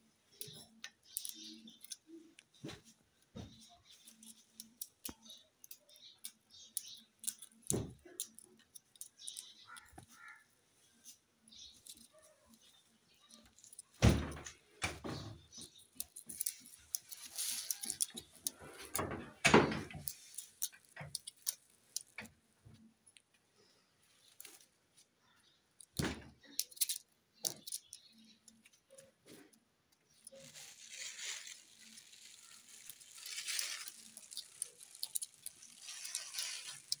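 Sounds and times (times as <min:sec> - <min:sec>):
rustling: 0:00.3 - 0:22.9, 0:26.6 - 0:37.0.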